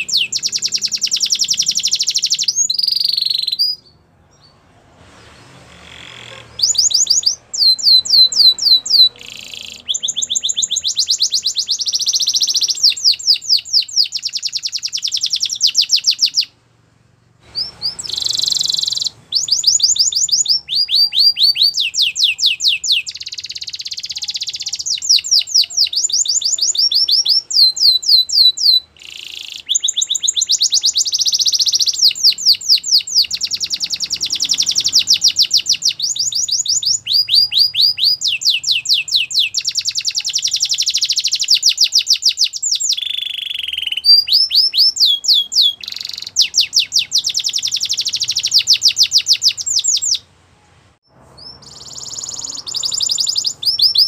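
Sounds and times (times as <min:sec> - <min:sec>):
canary singing trills: 0:00.0 - 0:16.6, 0:17.4 - 0:50.3, 0:51.0 - 0:54.0.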